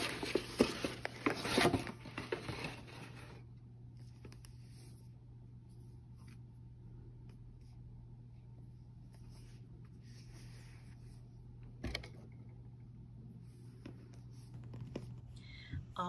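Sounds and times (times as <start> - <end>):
steady low hum: 1.9 - 16.0.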